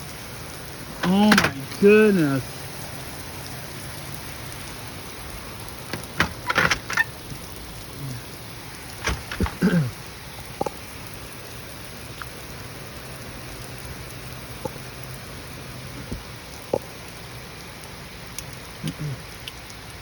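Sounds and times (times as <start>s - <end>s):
heavy rain pouring: 0.0s - 20.0s
raindrops tapping: 0.0s - 20.0s.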